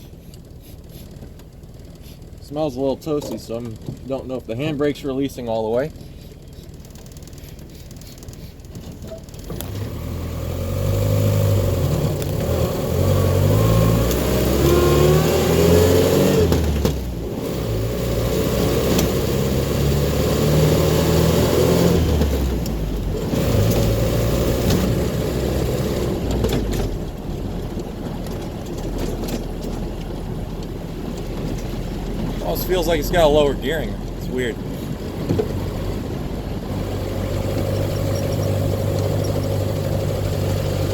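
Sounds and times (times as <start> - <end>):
car engine accelerating through gears: 6.4 - 40.9.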